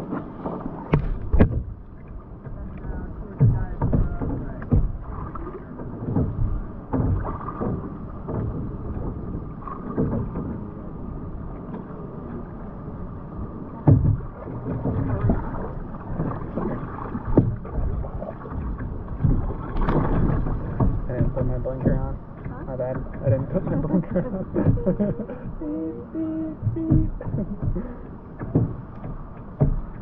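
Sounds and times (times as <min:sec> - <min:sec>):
paddle splashes: 0:00.0 - 0:30.0
water sloshing around hull: 0:00.0 - 0:30.0.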